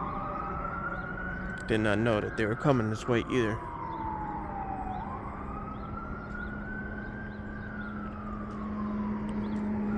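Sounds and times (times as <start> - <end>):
fire engine siren wailing: 0.0 - 9.9.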